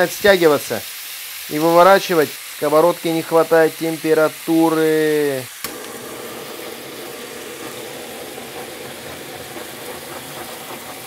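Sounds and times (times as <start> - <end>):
gas torch hissing: 0.0 - 11.0
oil sizzling: 0.0 - 11.0.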